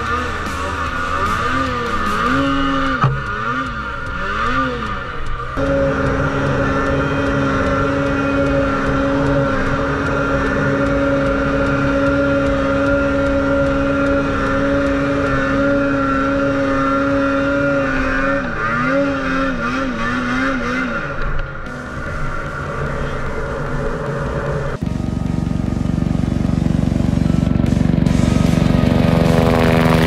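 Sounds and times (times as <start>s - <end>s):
snowmobile engine running: 0.0s - 30.0s.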